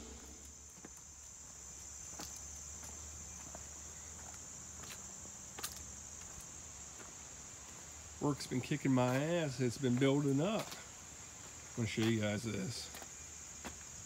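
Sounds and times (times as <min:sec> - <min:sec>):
footsteps on paving stones: 0:00.0 - 0:14.0
insects droning: 0:00.0 - 0:14.0.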